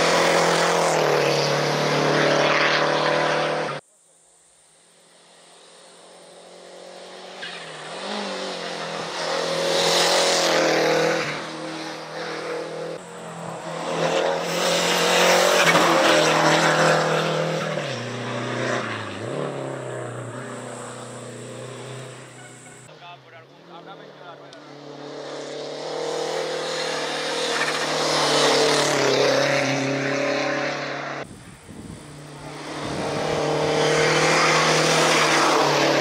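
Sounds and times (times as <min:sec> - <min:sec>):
race car engine: 0:00.0 - 0:03.8, 0:04.8 - 0:36.0.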